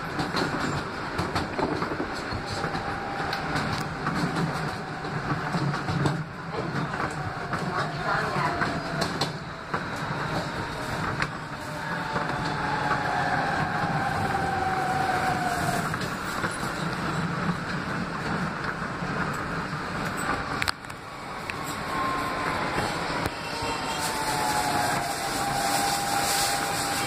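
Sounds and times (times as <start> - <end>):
rumble of wheels on rail: 0.0 - 27.0.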